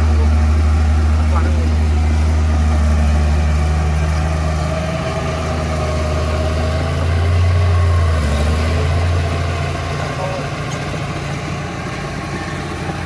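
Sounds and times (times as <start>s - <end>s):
diesel machinery engine droning: 0.0s - 13.0s.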